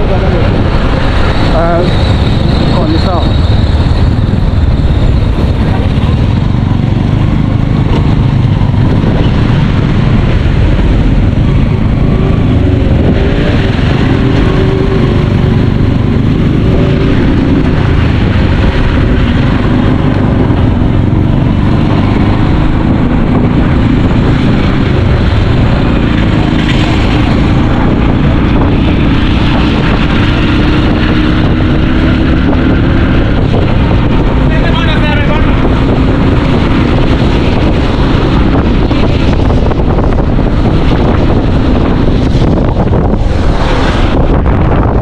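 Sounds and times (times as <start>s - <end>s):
vehicle engine and road noise: 0.0s - 45.0s
wind buffeting microphone: 0.0s - 45.0s.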